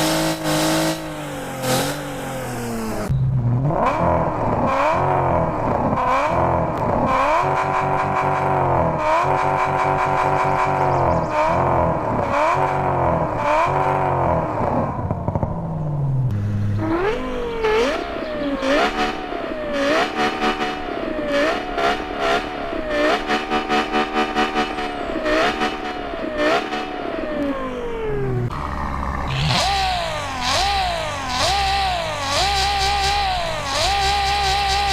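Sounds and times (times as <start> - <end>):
engine revving: 0.0 - 34.9.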